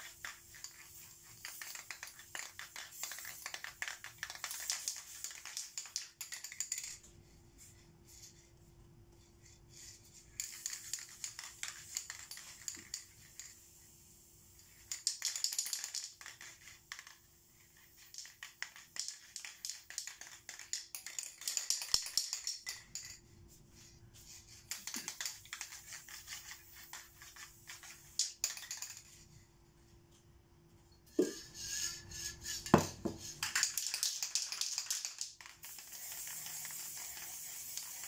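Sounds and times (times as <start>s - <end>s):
spray paint hissing: 0.0s - 7.0s, 9.4s - 23.2s, 23.8s - 29.2s, 31.2s - 38.0s.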